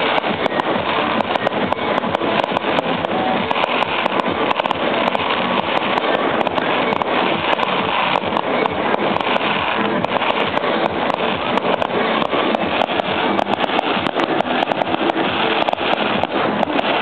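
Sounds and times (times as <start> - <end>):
distant fireworks popping: 0.0 - 17.0
steady hiss: 0.0 - 17.0.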